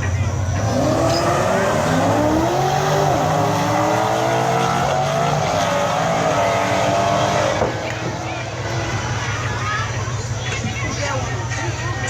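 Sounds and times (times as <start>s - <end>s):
drag car engines at full throttle: 0.0s - 12.0s.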